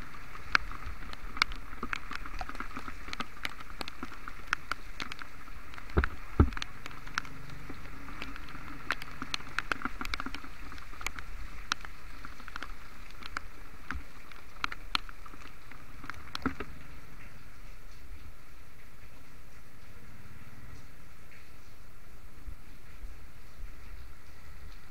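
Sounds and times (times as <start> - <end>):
heavy rain hissing: 0.0 - 24.9
raindrops ticking near microphone: 0.0 - 24.9.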